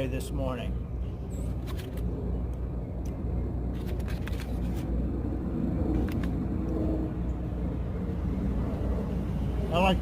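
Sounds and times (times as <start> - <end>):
city street traffic rumble: 0.0 - 10.0.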